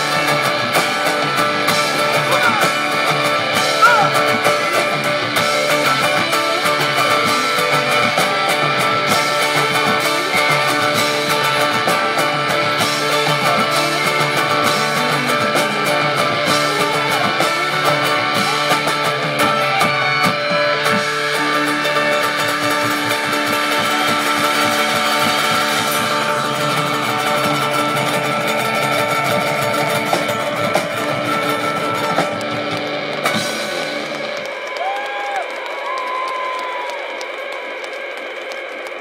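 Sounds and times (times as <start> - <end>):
live rock band: 0.0 - 39.0.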